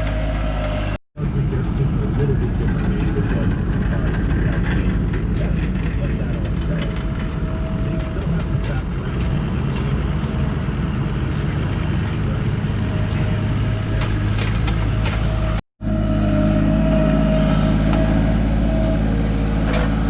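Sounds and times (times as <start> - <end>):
engine drone with whine: 0.0 - 20.0
vehicle engine running: 0.0 - 20.0.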